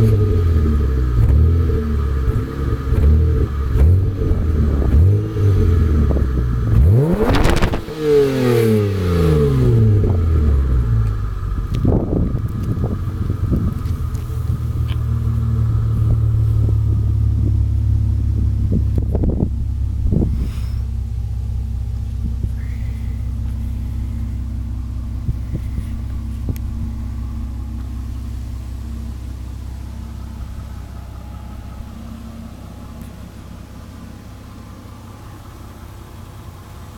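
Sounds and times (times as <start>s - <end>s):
car engine running low revs: 0.0s - 36.9s.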